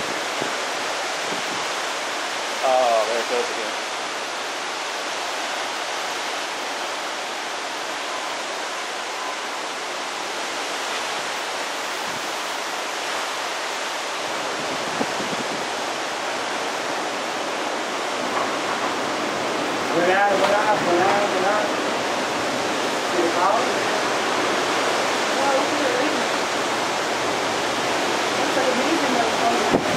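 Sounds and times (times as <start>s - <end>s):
storm wind blowing through trees: 0.0s - 29.9s.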